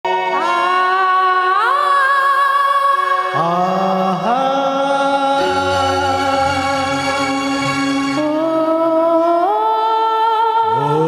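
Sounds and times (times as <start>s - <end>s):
karaoke backing track: 0.0s - 11.0s.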